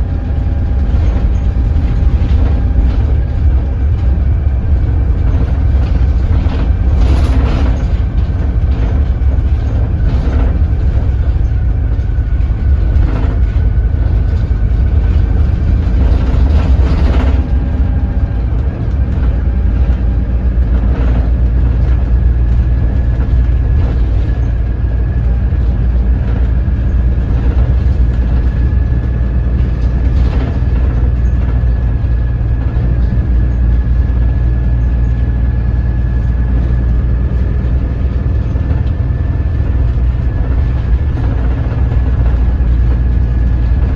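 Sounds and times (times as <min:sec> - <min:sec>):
body rattles and knocks: 0:00.0 - 0:43.9
bus diesel engine droning: 0:00.0 - 0:43.9.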